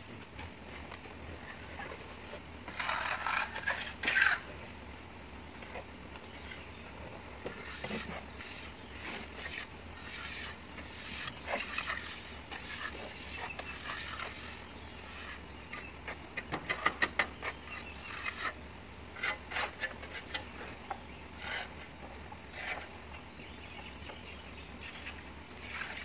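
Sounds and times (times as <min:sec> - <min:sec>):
trowels scraping wet render: 0:01.5 - 0:04.6, 0:05.7 - 0:23.1, 0:24.8 - 0:26.0.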